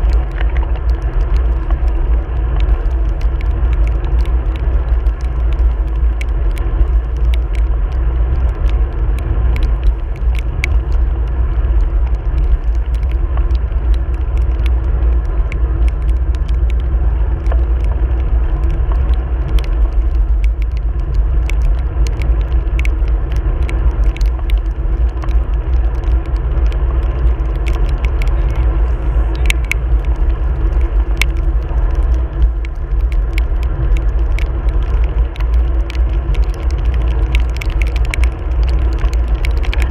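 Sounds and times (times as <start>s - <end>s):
sharp ticks: 0.0s - 39.9s
wind rumble and road noise: 0.0s - 39.9s.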